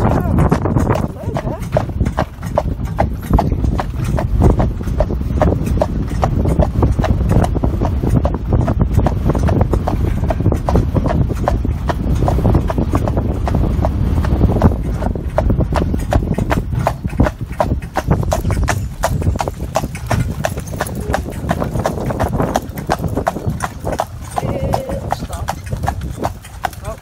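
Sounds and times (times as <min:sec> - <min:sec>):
horse hooves clip-clopping: 0:00.0 - 0:27.0
low rumble: 0:00.0 - 0:27.0.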